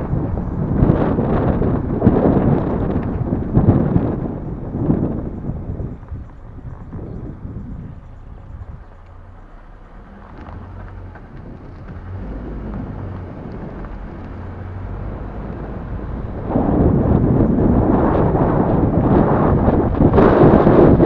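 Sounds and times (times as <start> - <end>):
vehicle low rumble: 0.0 - 21.0
wind buffeting microphone: 0.0 - 21.0.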